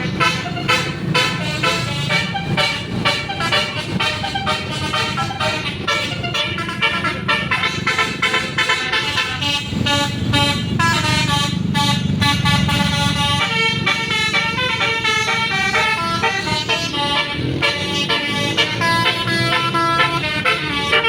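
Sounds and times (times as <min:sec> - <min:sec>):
multi-tone air horn melody: 0:00.0 - 0:21.0.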